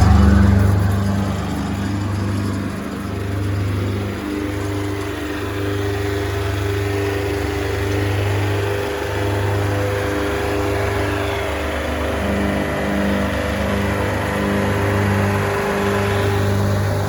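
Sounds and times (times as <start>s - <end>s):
wood chipper diesel engine running: 0.0s - 17.0s.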